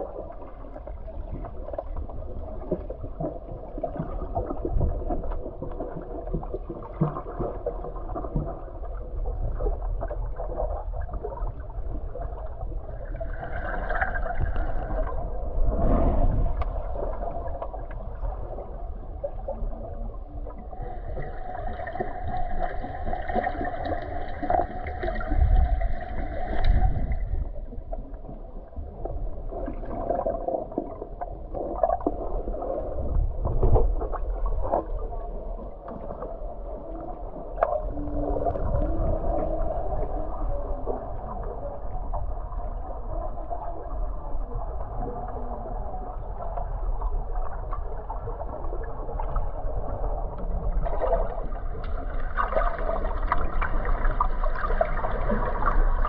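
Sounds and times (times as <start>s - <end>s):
muffled hum through water: 0.0s - 56.0s
underwater rumbling and gurgling: 0.0s - 56.0s.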